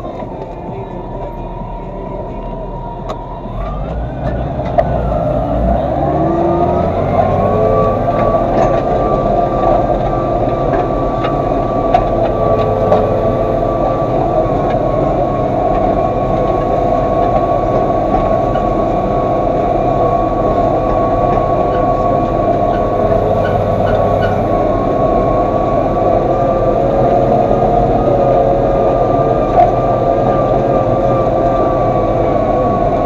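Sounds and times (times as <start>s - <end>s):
constant whine: 0.0s - 33.0s
tractor engine running: 0.0s - 33.0s.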